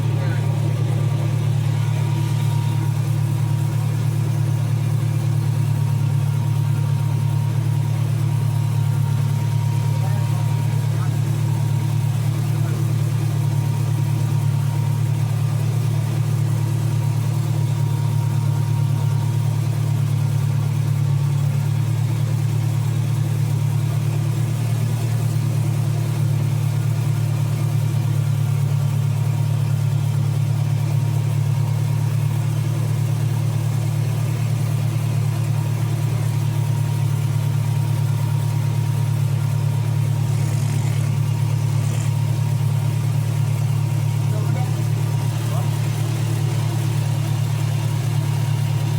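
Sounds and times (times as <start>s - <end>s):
locomotive engine droning: 0.0s - 48.9s.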